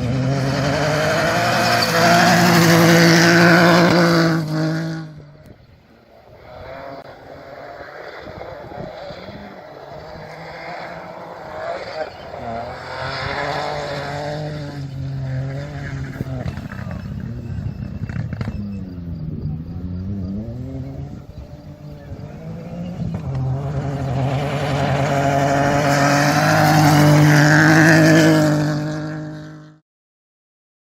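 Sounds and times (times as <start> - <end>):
rally car engine revving: 0.0 - 29.8.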